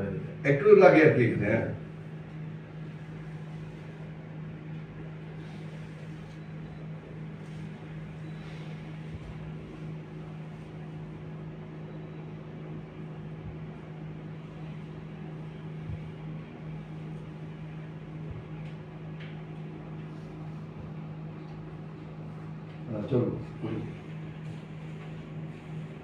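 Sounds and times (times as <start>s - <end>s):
low mechanical motor hum: 0.0s - 26.0s.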